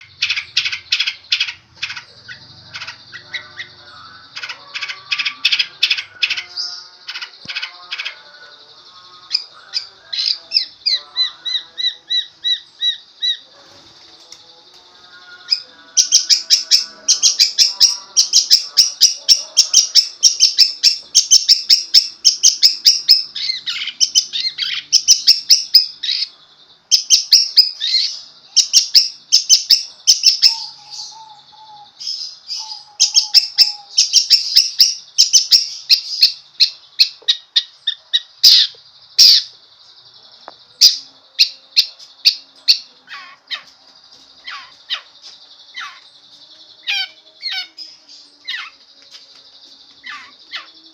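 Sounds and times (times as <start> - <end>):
bird chattering song: 0.0 - 50.9.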